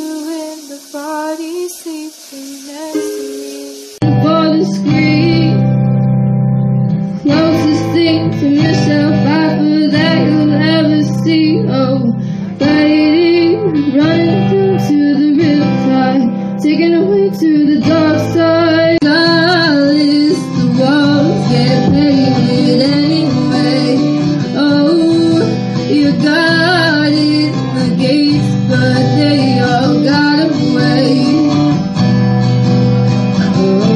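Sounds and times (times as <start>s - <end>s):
woman singing: 0.0s - 5.8s, 7.2s - 31.9s, 33.3s - 33.9s
acoustic guitar strumming: 0.0s - 33.9s.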